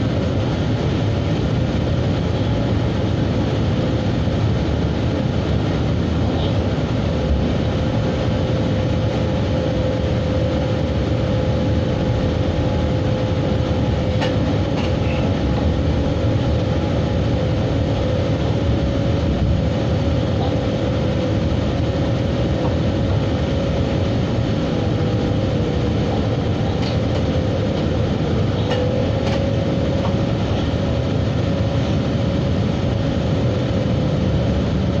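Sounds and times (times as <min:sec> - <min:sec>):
steady hum: 0:00.0 - 0:35.0
train wheels rumbling on rails: 0:00.0 - 0:35.0.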